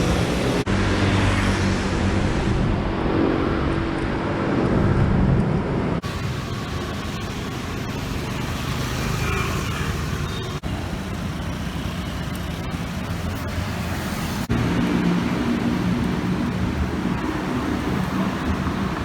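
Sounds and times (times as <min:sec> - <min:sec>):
city road traffic rumble: 0:00.0 - 0:19.0.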